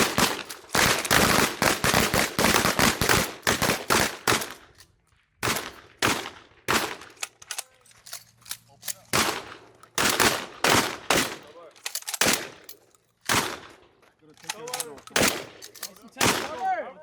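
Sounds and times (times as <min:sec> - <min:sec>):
shotguns firing: 0:00.0 - 0:04.8, 0:05.4 - 0:08.1, 0:08.8 - 0:16.7.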